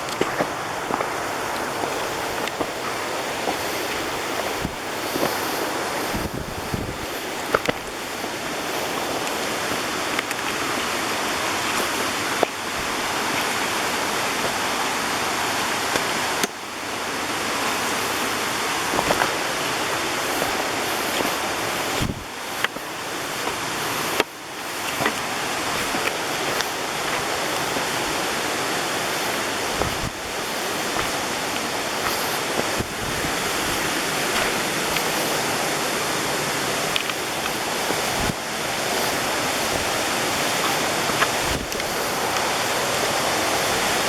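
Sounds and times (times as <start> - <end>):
rushing water: 0.0 - 44.0.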